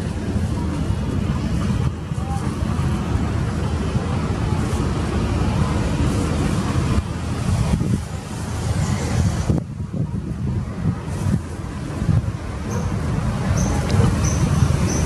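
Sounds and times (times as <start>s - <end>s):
low motor rumble: 0.0s - 15.0s
wind noise on microphone: 0.0s - 15.0s.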